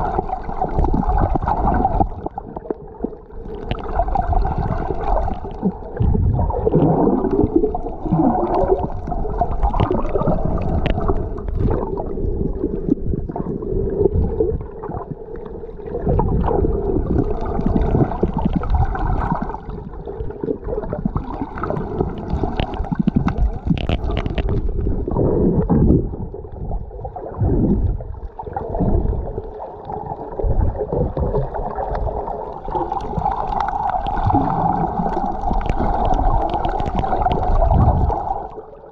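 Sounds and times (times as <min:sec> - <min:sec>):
low underwater rumble: 0:00.0 - 0:38.9
muffled underwater water gurgling: 0:00.0 - 0:38.9.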